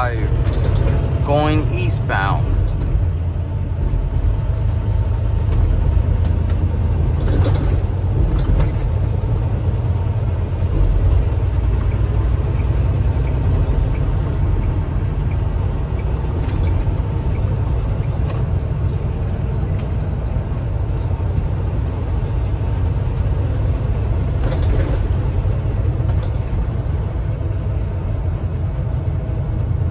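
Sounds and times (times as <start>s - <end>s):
road noise: 0.0s - 29.9s
truck diesel engine rumble: 0.0s - 29.9s.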